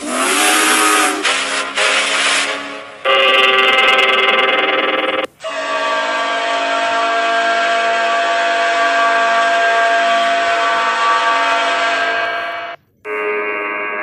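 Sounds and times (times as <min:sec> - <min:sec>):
locomotive air horn blast: 0:00.0 - 0:14.0.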